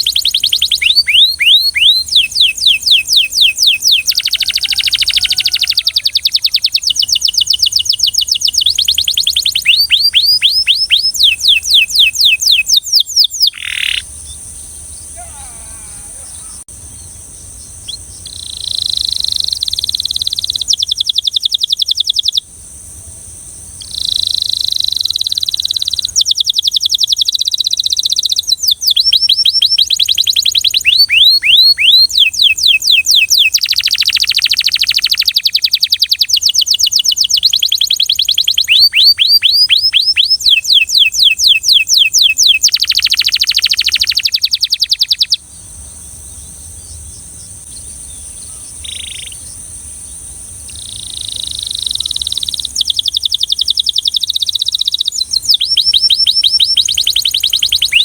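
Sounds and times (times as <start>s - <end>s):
canary singing trills: 0.0s - 22.5s, 23.8s - 58.0s.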